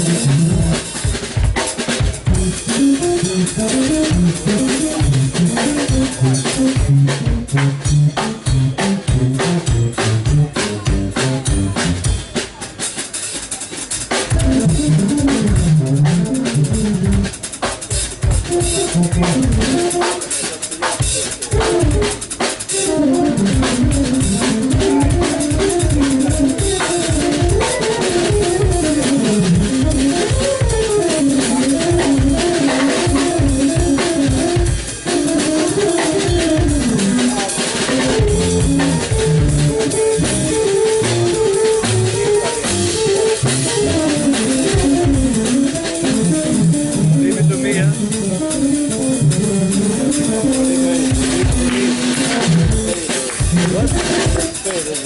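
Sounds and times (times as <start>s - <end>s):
drum kit pattern: 0.0s - 55.0s
keytar melody: 2.2s - 12.4s, 14.3s - 17.5s, 18.3s - 20.3s, 21.5s - 54.7s.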